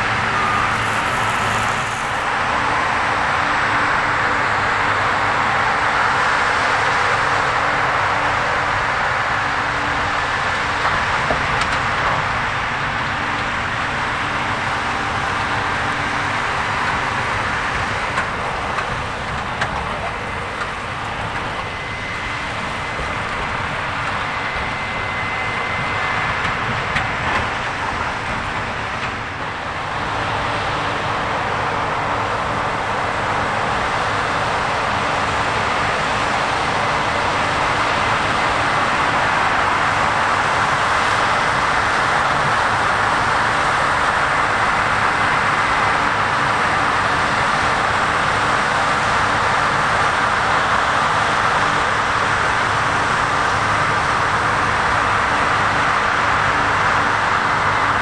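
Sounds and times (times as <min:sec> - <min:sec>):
combine harvester machinery drone: 0:00.0 - 0:58.0
tractor engine: 0:00.0 - 0:58.0.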